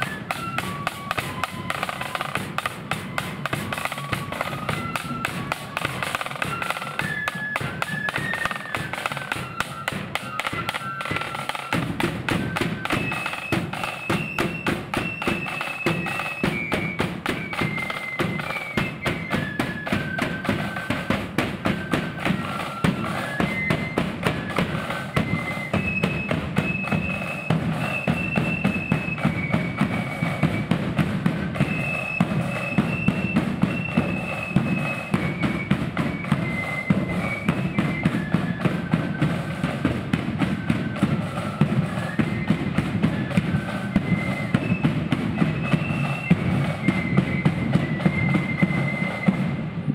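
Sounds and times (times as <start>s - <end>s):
flutes playing melody: 0.0s - 49.9s
rapid snare drumming: 0.0s - 49.9s.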